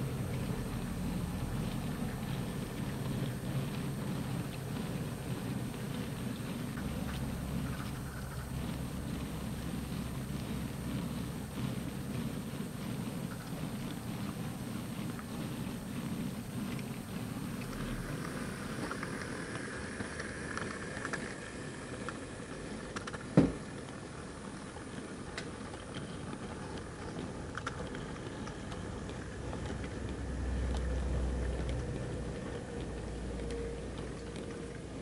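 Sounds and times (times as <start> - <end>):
model train wagons rumbling: 0.0 - 35.0.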